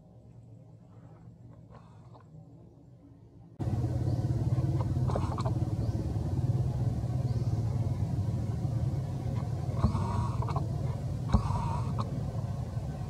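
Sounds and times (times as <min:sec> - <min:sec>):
motor engine rumbling: 0:00.0 - 0:13.0.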